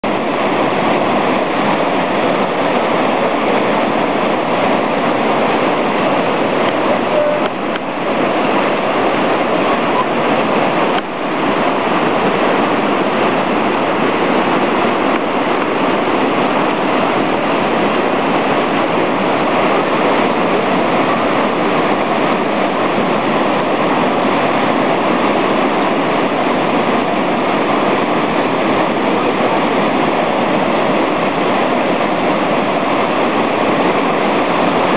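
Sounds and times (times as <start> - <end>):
river rapids rushing: 0.0 - 34.9.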